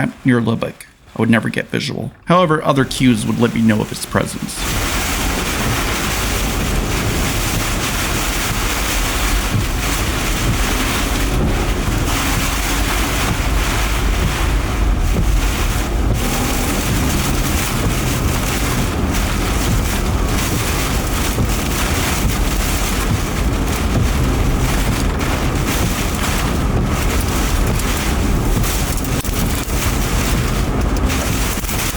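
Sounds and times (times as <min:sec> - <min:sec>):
wind buffeting microphone: 0:04.6 - 0:31.9.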